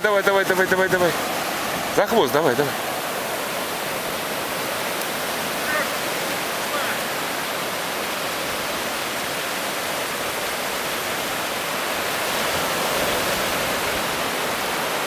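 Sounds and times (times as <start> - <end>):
ocean surf washing over beach: 0.0 - 15.0.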